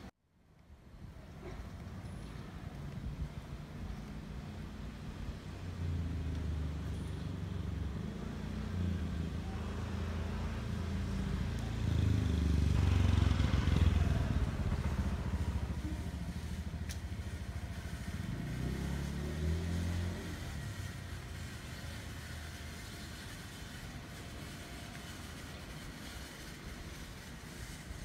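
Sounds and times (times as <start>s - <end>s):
motor vehicle engine rumble: 0.8s - 28.0s.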